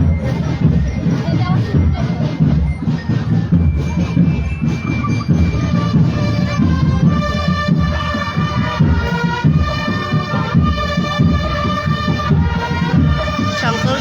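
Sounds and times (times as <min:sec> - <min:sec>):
marching drums: 0:00.0 - 0:14.0
wind instruments melody: 0:00.0 - 0:14.0.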